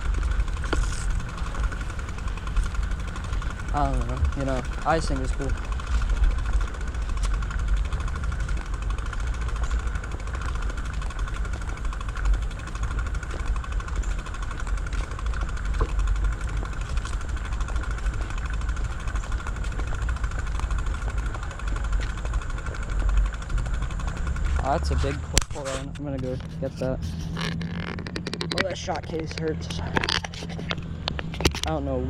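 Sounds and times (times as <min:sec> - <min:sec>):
constant whirring hum: 0:00.0 - 0:32.0.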